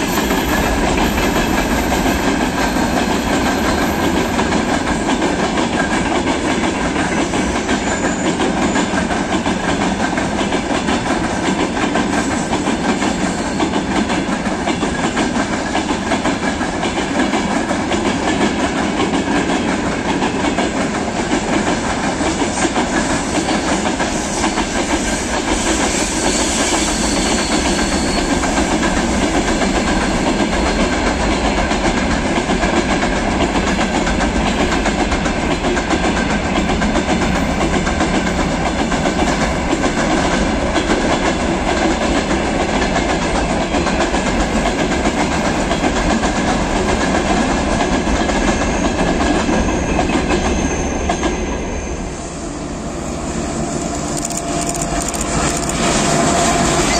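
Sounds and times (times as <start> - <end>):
freight train rolling past: 0.0 - 56.9.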